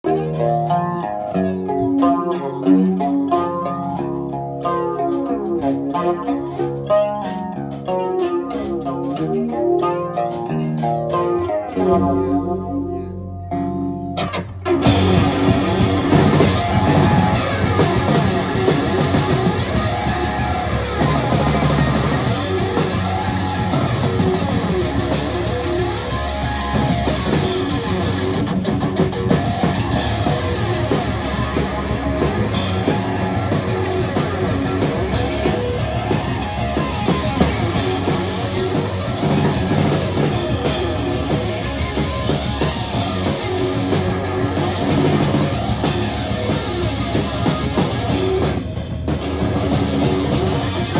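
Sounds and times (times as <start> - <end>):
rock music: 0.0 - 50.9.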